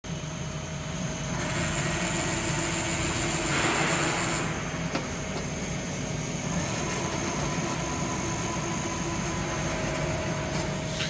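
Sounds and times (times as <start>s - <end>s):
lathe machine hum with whine: 0.1s - 11.0s.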